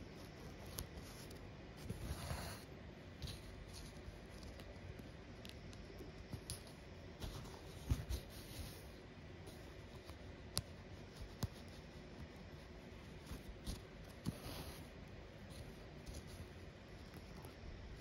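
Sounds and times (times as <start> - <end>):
thread rustling through fabric: 0.0 - 18.0.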